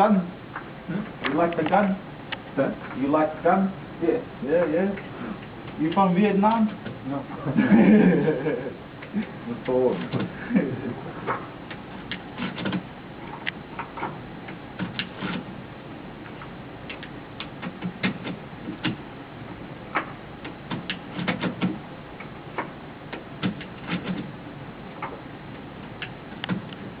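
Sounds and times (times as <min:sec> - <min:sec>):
steady low background noise: 0:00.0 - 0:27.0.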